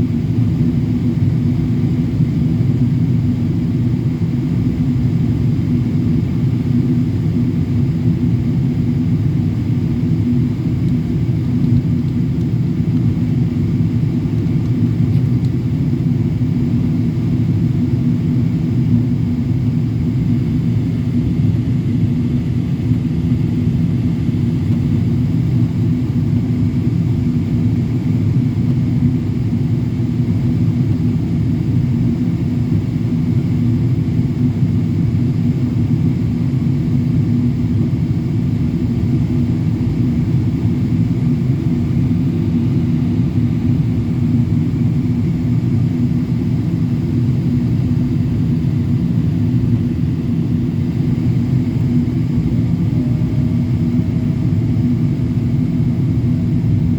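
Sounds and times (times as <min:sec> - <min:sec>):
airliner cabin drone: 0:00.0 - 0:56.9.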